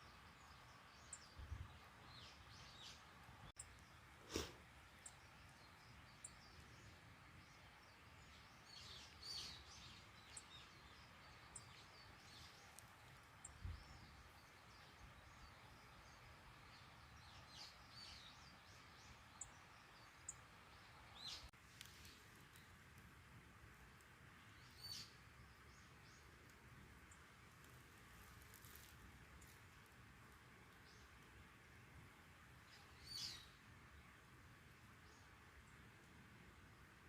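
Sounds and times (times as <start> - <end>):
faint steady hiss: 0.0 - 37.0.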